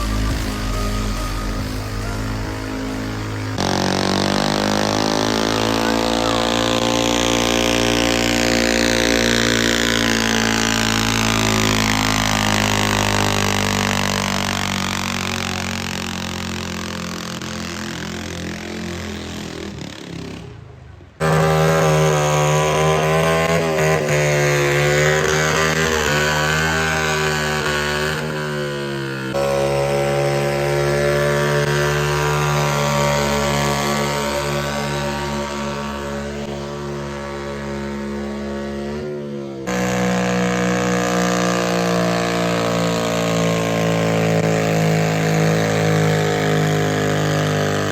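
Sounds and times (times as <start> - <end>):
tractor engines at high revs: 0.0 - 47.9.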